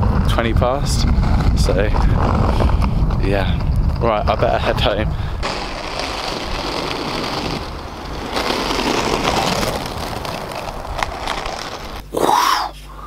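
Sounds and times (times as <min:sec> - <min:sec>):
skateboard wheels rolling on tarmac: 0:00.0 - 0:12.1.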